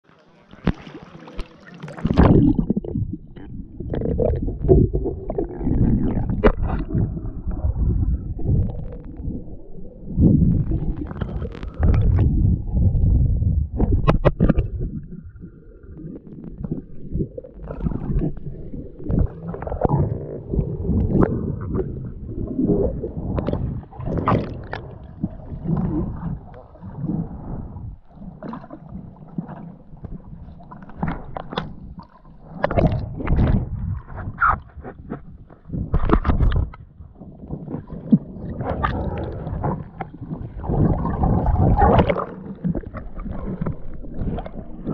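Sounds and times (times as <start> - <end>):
muffled underwater rumbling and gurgling: 0.0 - 44.9.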